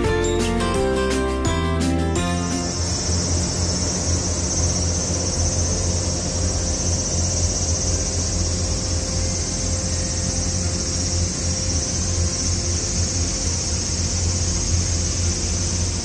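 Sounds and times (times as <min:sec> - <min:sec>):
high-pitched insect drone: 0:02.2 - 0:16.0
low steady hum: 0:02.2 - 0:16.0.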